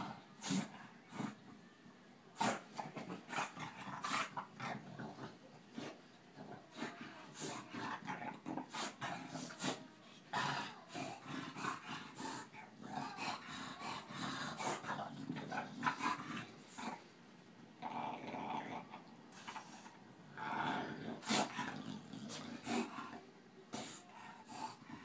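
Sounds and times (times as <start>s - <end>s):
dogs growling: 0.0s - 1.6s, 2.4s - 17.1s, 17.8s - 25.0s.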